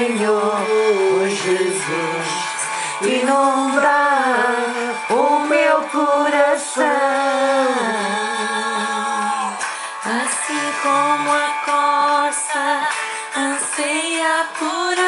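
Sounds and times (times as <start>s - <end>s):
worship song instrumental melody: 0.0s - 15.0s.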